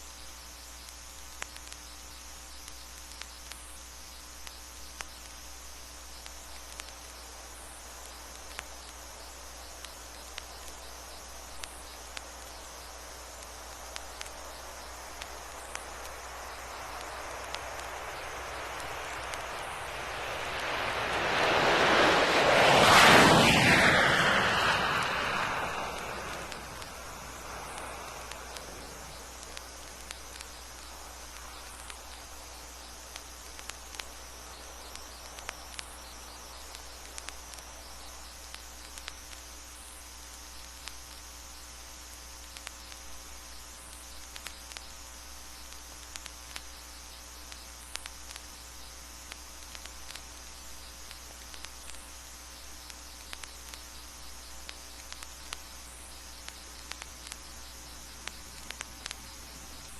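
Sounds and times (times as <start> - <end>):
mains hum: 0.0 - 59.9
record crackles and clicks: 0.0 - 59.9
vinyl hiss: 0.0 - 59.9.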